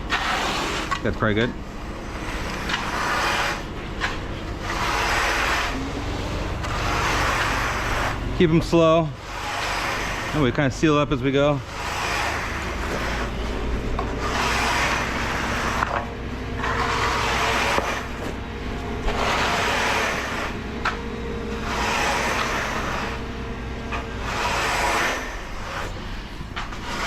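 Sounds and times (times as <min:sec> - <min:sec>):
engine droning: 0:00.0 - 0:27.0
screed scraping wet concrete: 0:00.0 - 0:27.0.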